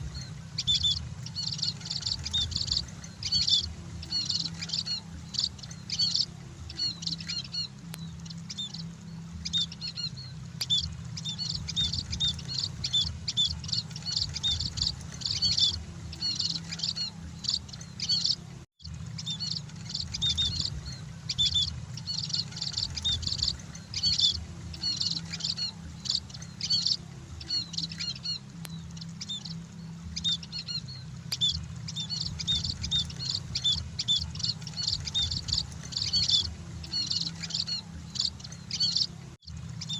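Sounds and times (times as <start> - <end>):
flock of birds chirping: 0.0 - 39.9
steady low hum: 0.0 - 39.9.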